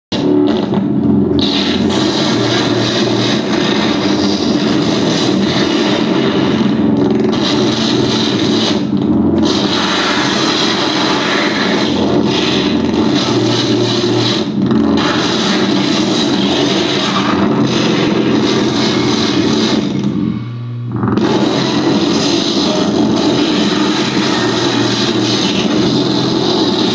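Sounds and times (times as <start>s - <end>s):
harsh noise wall: 0.1s - 26.9s
steady low drone: 0.1s - 26.9s.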